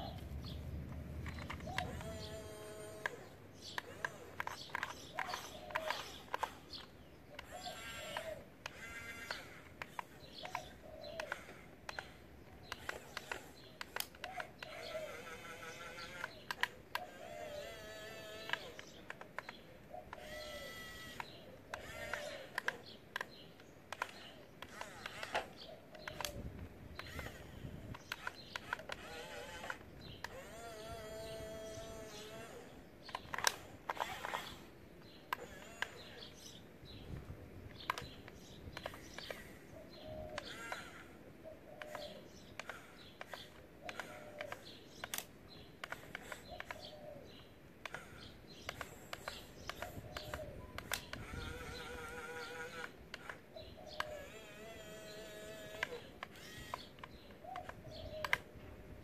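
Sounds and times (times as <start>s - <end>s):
bird calling: 0.0s - 58.6s
sharp clicks: 0.0s - 58.7s
toy electric motors whining: 0.0s - 59.0s.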